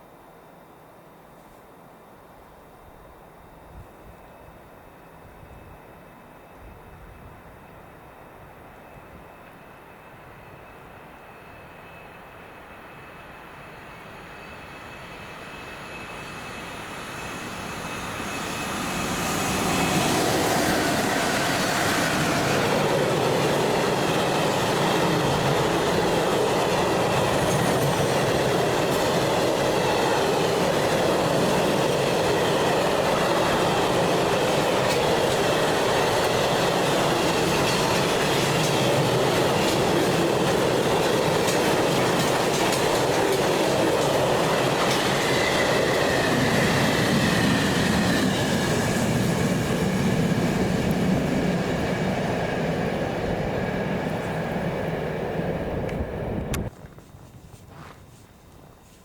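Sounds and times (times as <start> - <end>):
train wheels rolling on rails: 5.1 - 59.0.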